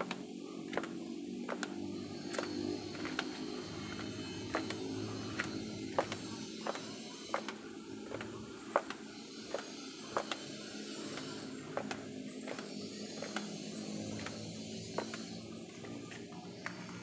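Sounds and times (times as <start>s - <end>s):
footsteps on concrete: 0.0s - 17.0s
steady background hiss: 0.0s - 17.0s.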